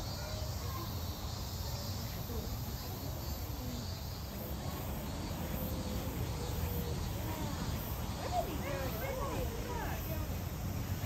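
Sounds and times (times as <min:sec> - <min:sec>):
faint far-off voices: 0:00.0 - 0:11.0
faint high hiss: 0:00.0 - 0:11.0.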